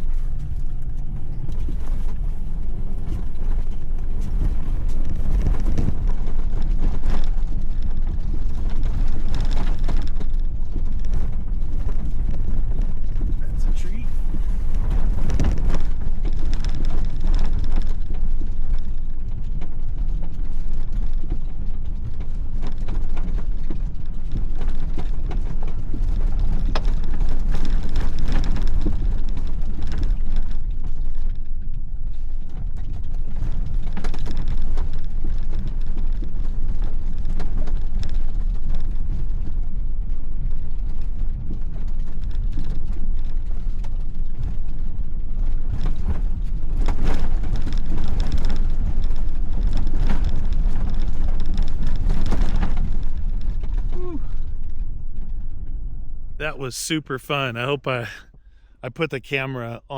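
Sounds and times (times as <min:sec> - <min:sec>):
engine and drivetrain rumble: 0:00.0 - 0:56.4.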